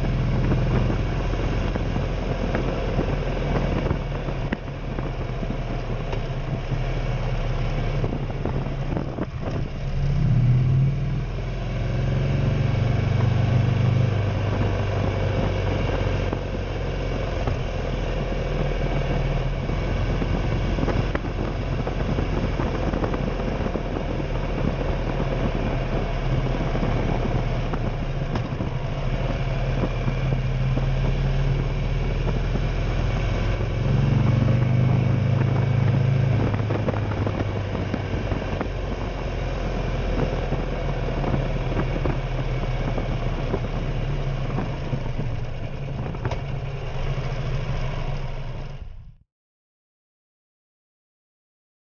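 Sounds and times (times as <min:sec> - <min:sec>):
motorcycle engine running: 0:00.0 - 0:49.2
road and wind noise: 0:00.0 - 0:49.2.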